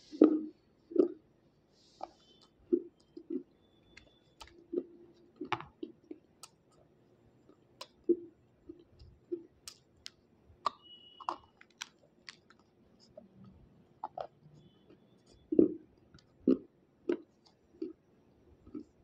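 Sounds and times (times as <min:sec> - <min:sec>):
chewing and lip sounds: 0:00.0 - 0:01.2, 0:01.8 - 0:19.0.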